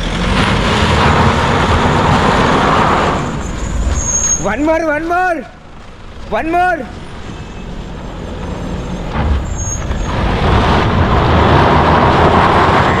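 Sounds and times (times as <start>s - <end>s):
road traffic rushing hiss: 0.0s - 13.0s.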